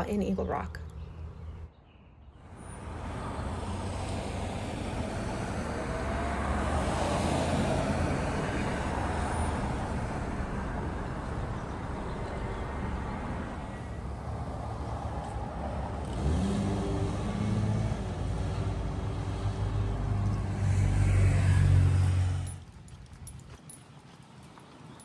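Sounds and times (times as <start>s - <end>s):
car engine and tyres on road: 0.8s - 25.0s.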